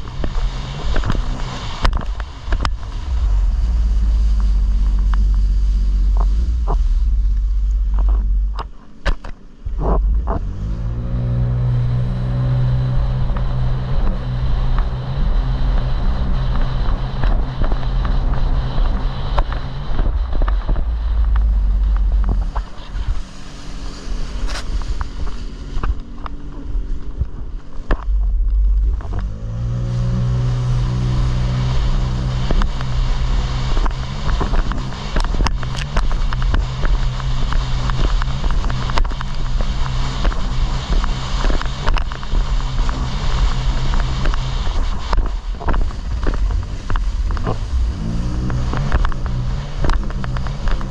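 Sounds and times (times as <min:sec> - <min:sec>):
jet ski engine running: 0:00.0 - 0:50.9
water and wind rushing: 0:00.0 - 0:50.9.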